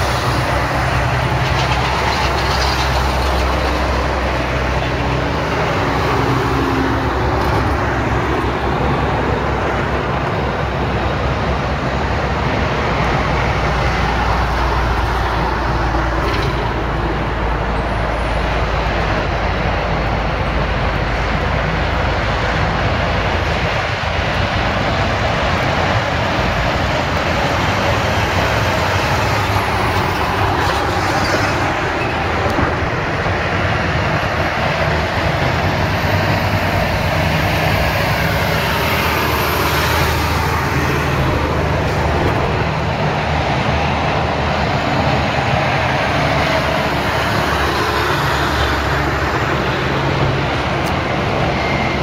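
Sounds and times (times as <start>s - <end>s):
road vehicle engine and tyre rush: 0.0s - 52.0s.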